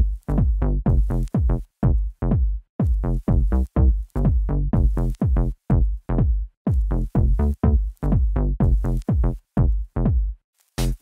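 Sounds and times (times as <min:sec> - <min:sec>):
chopped synth electronic music: 0:00.0 - 0:11.0.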